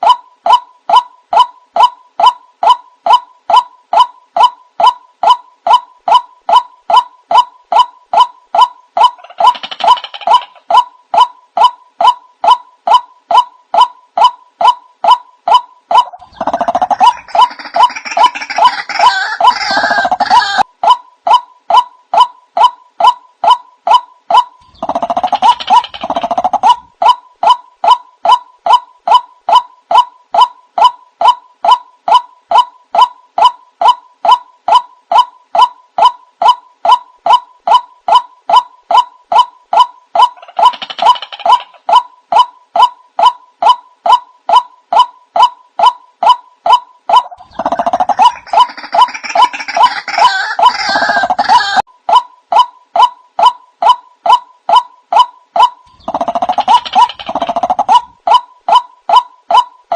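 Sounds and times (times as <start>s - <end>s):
waterhen short repeated calls: 0.0s - 20.7s, 21.3s - 59.9s.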